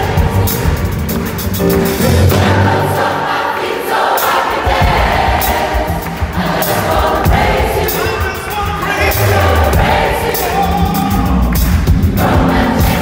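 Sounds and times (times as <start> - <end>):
large choir singing gospel: 0.0 - 13.0
stage piano: 0.0 - 13.0.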